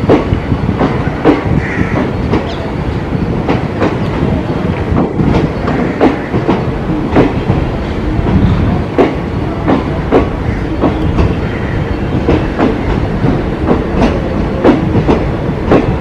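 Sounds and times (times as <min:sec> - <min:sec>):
low train rumble: 0:00.0 - 0:16.0
train wheels clacking over rail joints: 0:00.0 - 0:16.0.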